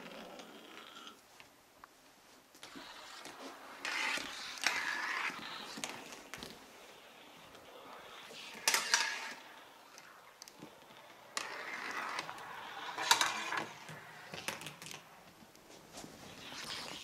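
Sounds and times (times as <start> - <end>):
marble rolling on plastic track: 0.0 - 1.2, 2.7 - 15.2.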